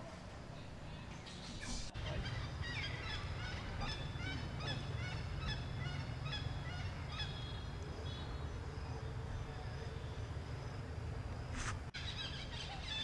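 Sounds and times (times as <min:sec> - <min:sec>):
bird calling: 0:00.9 - 0:10.4, 0:11.5 - 0:13.0.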